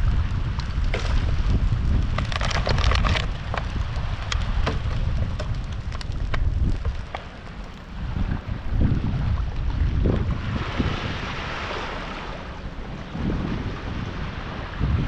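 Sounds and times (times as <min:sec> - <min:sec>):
bonfire crackling and popping: 0:00.0 - 0:14.1
wind rumbling on microphone: 0:00.0 - 0:15.0.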